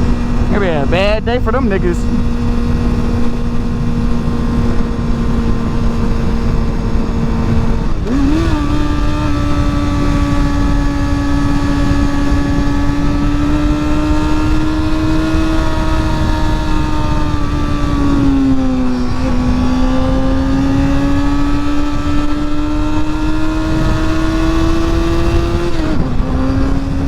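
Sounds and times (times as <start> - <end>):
motorcycle engine running: 0.0 - 27.0
wind rush on microphone: 0.0 - 27.0.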